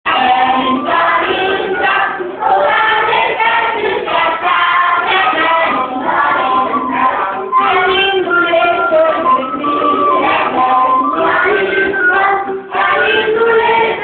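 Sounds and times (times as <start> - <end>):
group of voices singing: 0.1 - 14.0.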